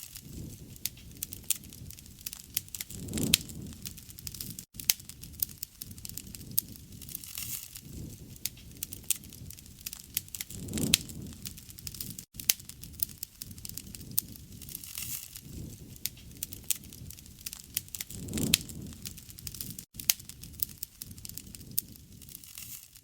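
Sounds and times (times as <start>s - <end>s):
low rush of flames: 0.0s - 22.6s
wood crackling and popping: 0.0s - 23.0s.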